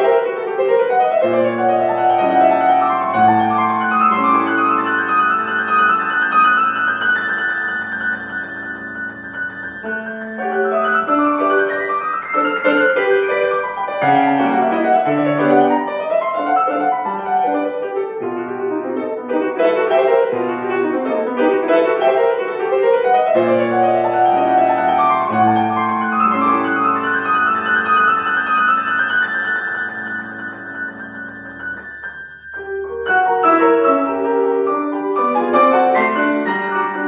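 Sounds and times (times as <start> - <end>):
classical piano piece: 0.0 - 37.0.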